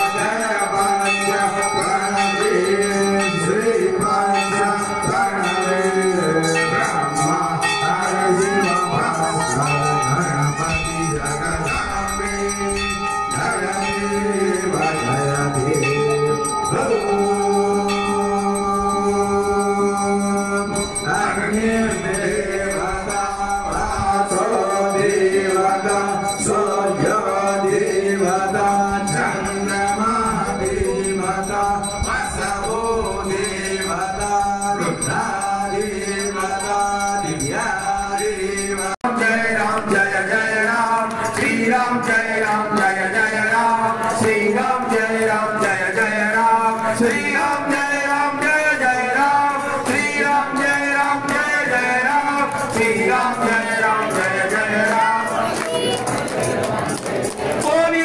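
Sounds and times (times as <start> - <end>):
group chant-like singing: 0.0 - 58.0.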